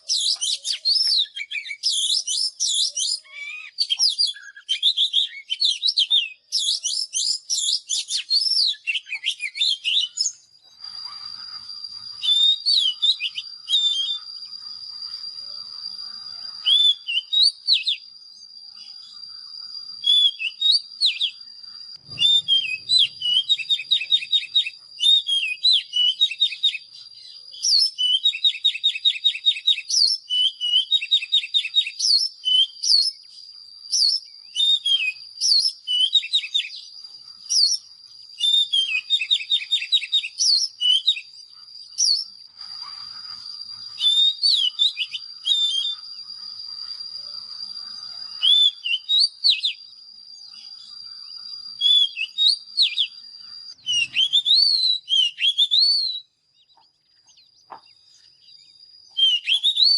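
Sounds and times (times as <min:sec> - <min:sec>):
bird singing trills and whistles: 0:00.0 - 0:59.9
steady high-pitched whine: 0:00.0 - 0:59.9.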